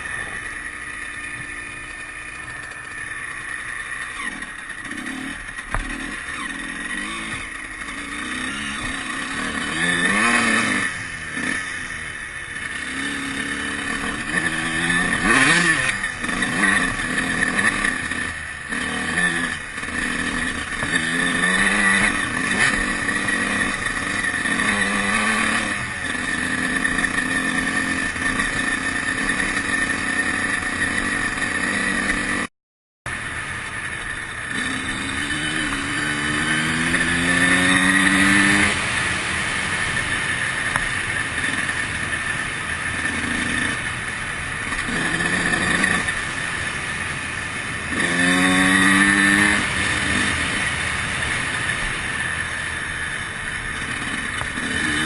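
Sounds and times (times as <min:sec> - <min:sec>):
motorcycle engine revving: 0:00.0 - 0:32.5, 0:33.1 - 0:55.0.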